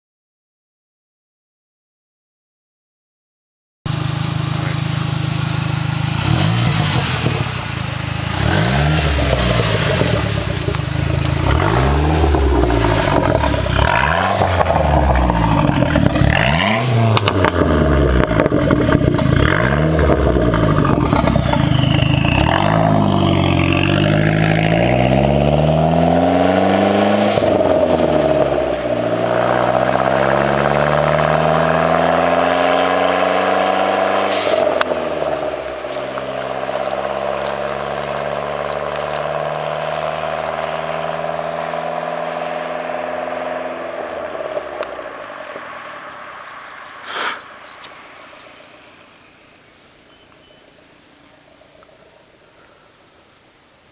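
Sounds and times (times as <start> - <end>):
car engine revving: 3.9 - 49.8.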